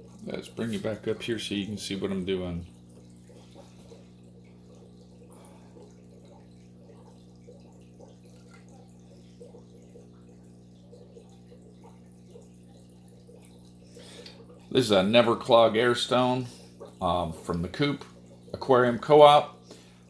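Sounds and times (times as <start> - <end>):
aquarium equipment hum: 0.0 - 20.0
water bubbling and dripping: 0.0 - 20.0.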